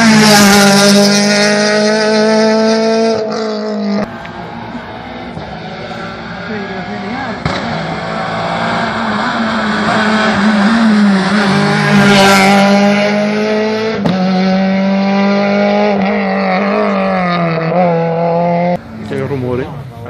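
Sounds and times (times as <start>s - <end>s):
rally car engine at high revs: 0.0s - 19.1s.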